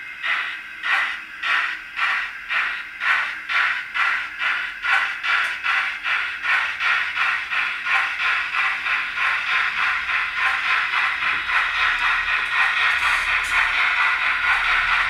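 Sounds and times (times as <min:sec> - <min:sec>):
steam locomotive chuffs from small speaker: 0:00.0 - 0:15.0.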